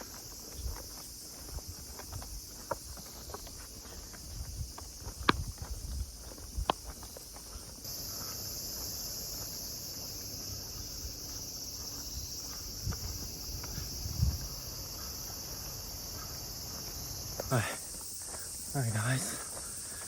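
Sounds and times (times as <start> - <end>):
high-pitched insect chorus: 0.0 - 20.0
soft footsteps on road: 0.0 - 20.0.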